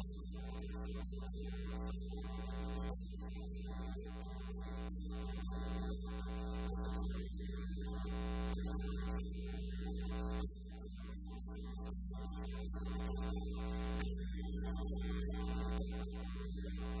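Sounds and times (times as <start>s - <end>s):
faint steady tones: 0.0s - 17.0s
low electrical hum: 0.0s - 17.0s.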